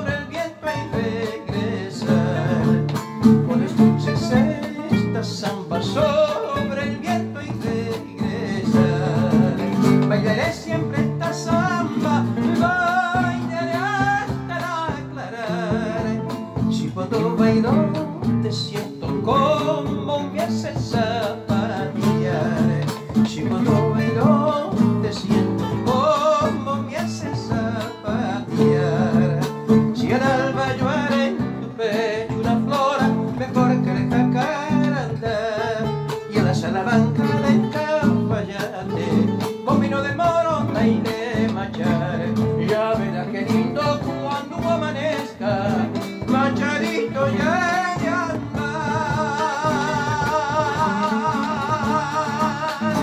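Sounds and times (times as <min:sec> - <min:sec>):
classical guitars playing: 0:00.0 - 0:53.0.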